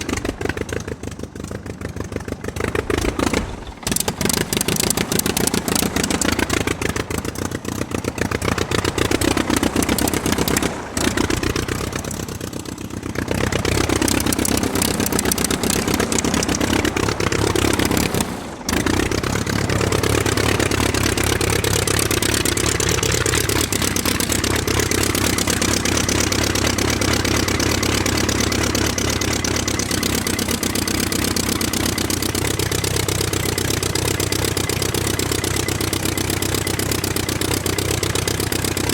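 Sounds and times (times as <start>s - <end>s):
aircraft engine running: 0.0s - 38.9s.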